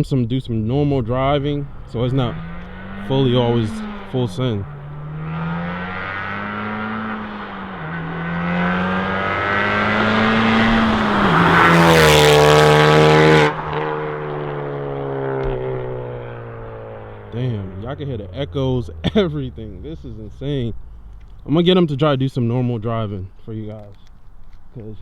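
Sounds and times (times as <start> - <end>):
car engine accelerating hard: 0.5 - 22.2.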